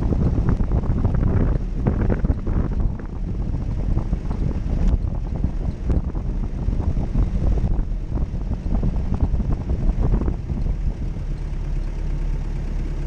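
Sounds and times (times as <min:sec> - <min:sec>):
wind buffeting microphone: 0:00.0 - 0:12.4
car engine rumbling: 0:00.0 - 0:13.0.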